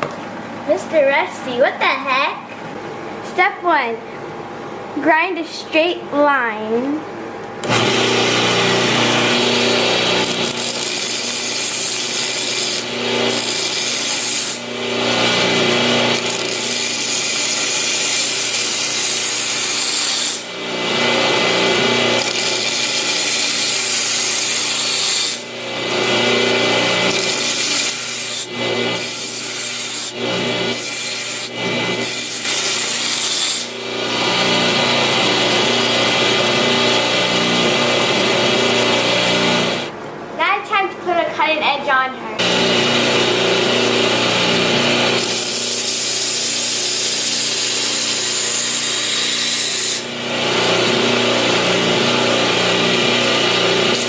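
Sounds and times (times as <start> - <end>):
knife grinding on belt grinder: 7.6 - 39.9, 42.4 - 54.0.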